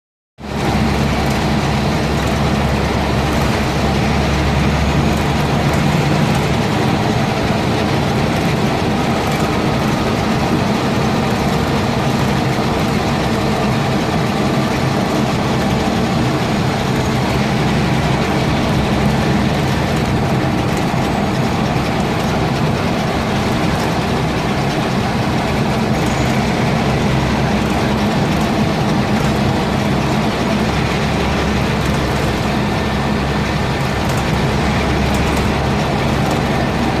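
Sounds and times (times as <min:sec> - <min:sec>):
bus diesel engine running: 0:00.4 - 0:37.0
road and body noise: 0:00.4 - 0:37.0.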